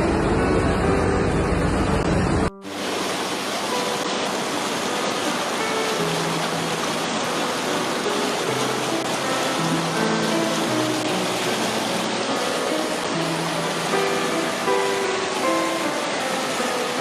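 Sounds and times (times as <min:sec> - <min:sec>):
floodwater rushing: 0:00.4 - 0:17.0.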